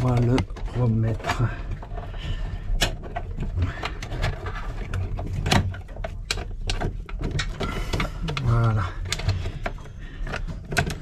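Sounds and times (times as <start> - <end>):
cables clicking and rustling: 0.0 - 11.0.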